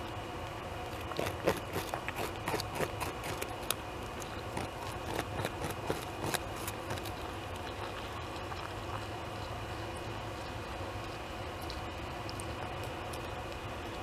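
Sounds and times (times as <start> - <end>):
beaver gnawing bark: 0.4 - 14.0.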